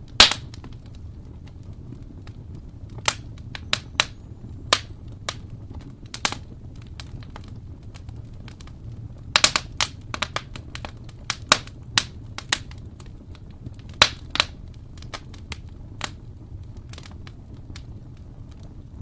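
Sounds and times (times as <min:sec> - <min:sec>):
low steady fire rumble: 0:00.0 - 0:19.0
wood fire crackling and popping: 0:00.0 - 0:19.0.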